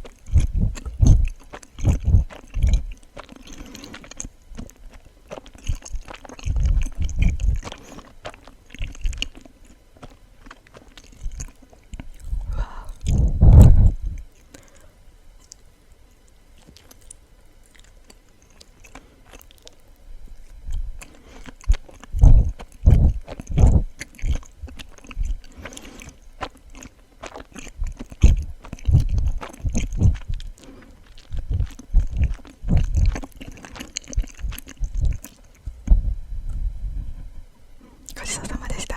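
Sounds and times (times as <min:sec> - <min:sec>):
close chewing of soft sweet: 0:00.0 - 0:38.9.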